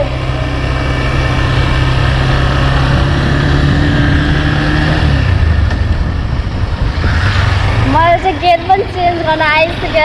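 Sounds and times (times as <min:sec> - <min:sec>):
air and road noise: 0:00.0 - 0:10.0
motorcycle engine running: 0:00.0 - 0:10.0.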